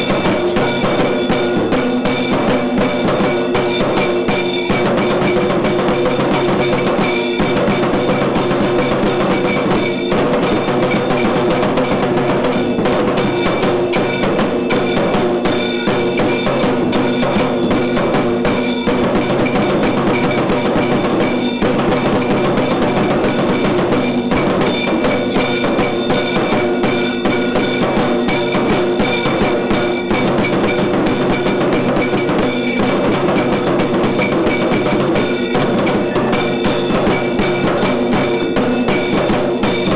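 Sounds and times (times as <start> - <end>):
fast drumming and percussion: 0.0 - 39.9.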